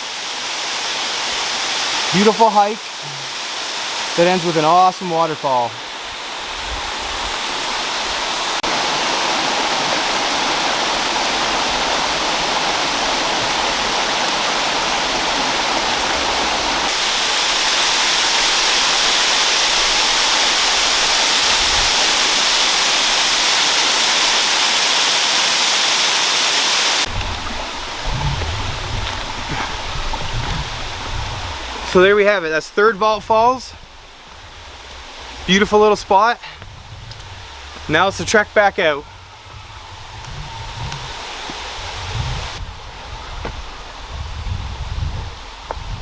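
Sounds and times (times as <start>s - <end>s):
waterfall rushing: 0.0s - 44.1s.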